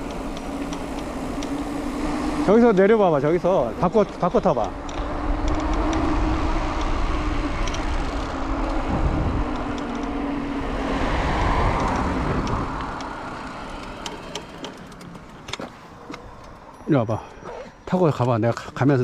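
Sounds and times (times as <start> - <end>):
low hum: 0.0 - 17.9
wind and road noise: 0.0 - 19.0.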